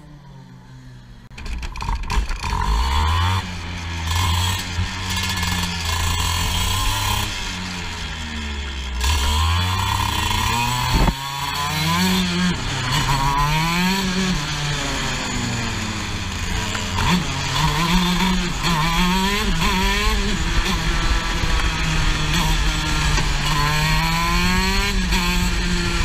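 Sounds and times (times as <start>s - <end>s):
kart engine revving: 0.0s - 26.0s.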